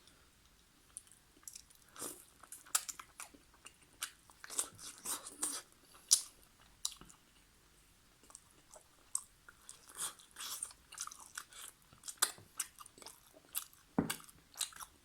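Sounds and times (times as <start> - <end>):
person chewing food: 0.0 - 7.5, 8.2 - 15.0.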